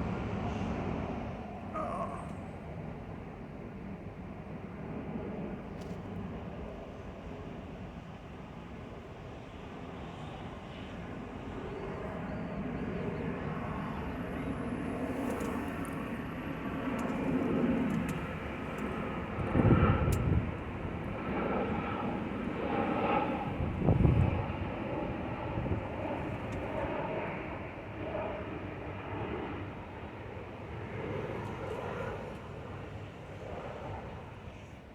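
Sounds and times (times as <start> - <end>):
jet airliner flying over: 0.0 - 34.9.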